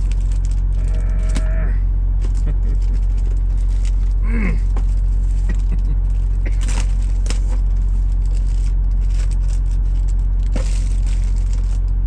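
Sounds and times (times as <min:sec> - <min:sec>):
plastic packaging crinkling: 0:00.0 - 0:01.6, 0:02.2 - 0:12.0
idling diesel truck engine: 0:00.0 - 0:12.0.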